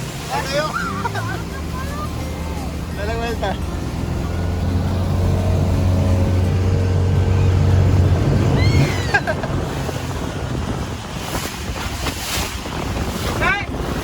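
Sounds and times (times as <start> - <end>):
motorboat engine running: 0.0 - 14.0
water noise: 0.0 - 14.0
wind: 0.0 - 14.0.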